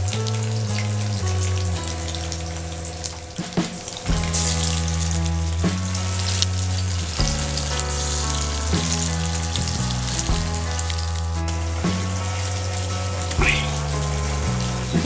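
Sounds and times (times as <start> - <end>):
chicken sizzling in hot oil: 0.0 - 15.0
music of low chords: 0.0 - 15.0.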